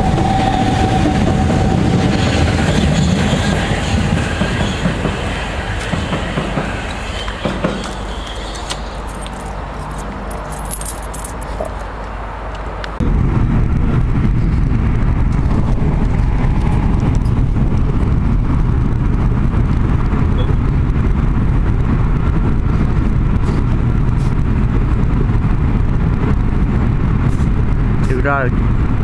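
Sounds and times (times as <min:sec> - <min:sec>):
car road rumble: 0:00.9 - 0:29.0.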